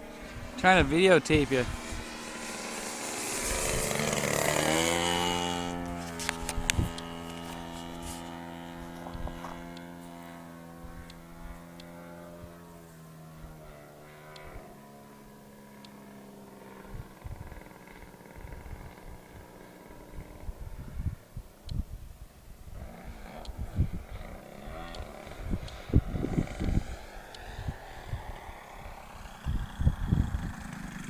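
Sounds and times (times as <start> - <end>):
model plane engine buzzing: 0.0 - 31.0.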